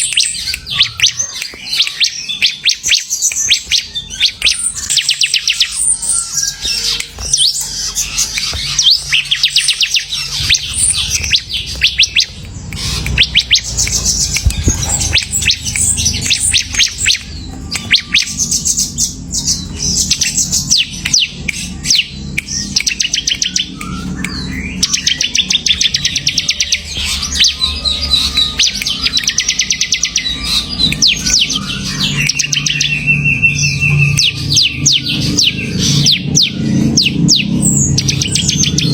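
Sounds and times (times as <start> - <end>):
bird singing chattering trills: 0.0 - 38.9.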